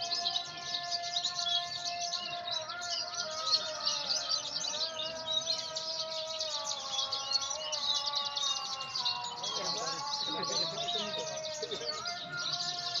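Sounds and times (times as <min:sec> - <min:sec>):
lark singing high chirps and trills: 0:00.0 - 0:13.0.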